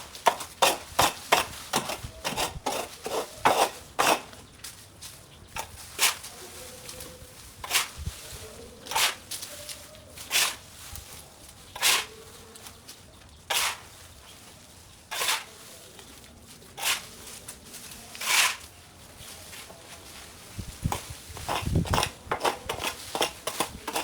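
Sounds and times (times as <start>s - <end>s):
hand tool scraping through overgrowth: 0.0s - 24.0s.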